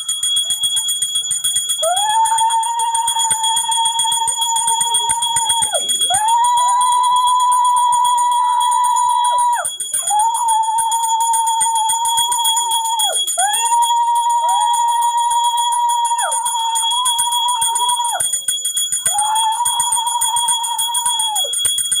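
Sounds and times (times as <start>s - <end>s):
hand bell ringing rapidly: 0.0s - 22.0s.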